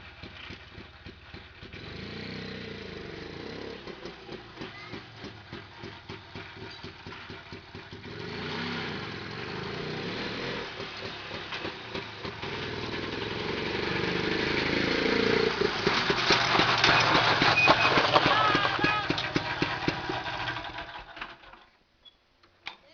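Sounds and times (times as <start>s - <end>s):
two-stroke engine revving: 0.0s - 21.6s.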